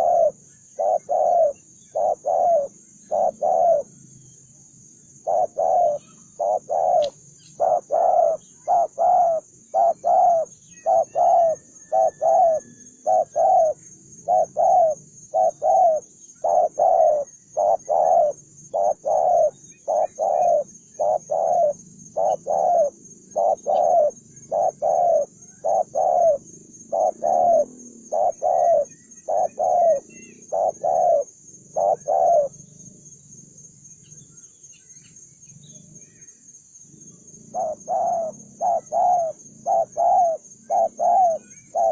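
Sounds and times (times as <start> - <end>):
dove cooing: 0.0 - 4.0, 5.2 - 32.6, 37.5 - 41.9.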